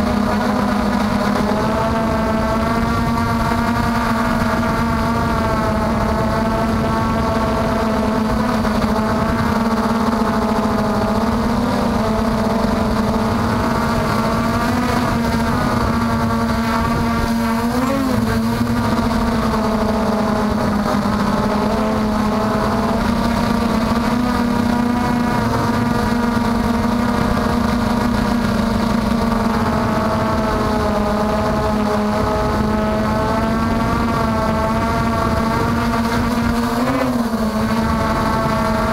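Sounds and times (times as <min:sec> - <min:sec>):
quadcopter propellers whining: 0:00.0 - 0:38.9.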